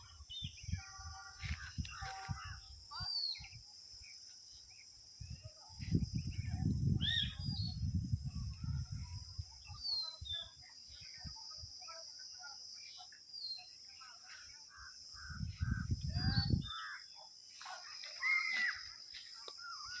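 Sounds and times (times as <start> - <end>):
birds chirping: 0.0 - 7.9, 8.6 - 20.0.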